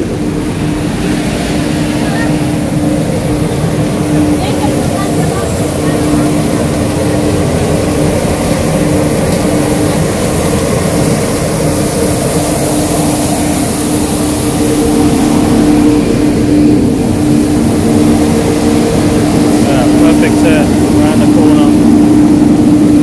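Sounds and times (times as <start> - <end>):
street sweeper droning whine: 0.0 - 23.0.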